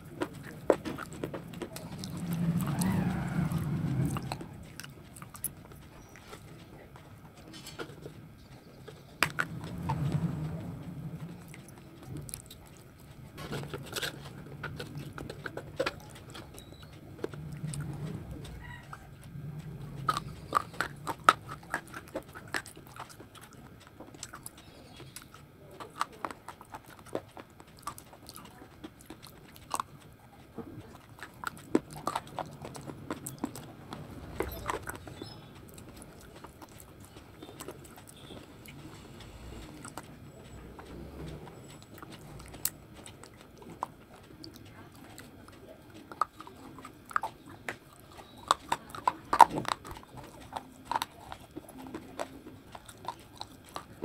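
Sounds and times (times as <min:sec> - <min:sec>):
muffled chewing: 0:00.0 - 0:54.0.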